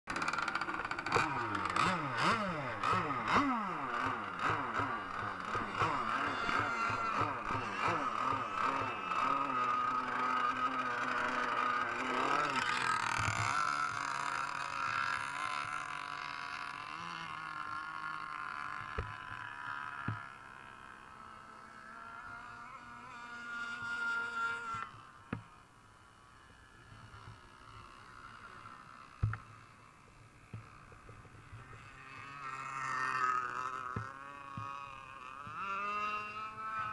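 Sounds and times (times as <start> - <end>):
model boat engine whining: 0.1 - 36.9.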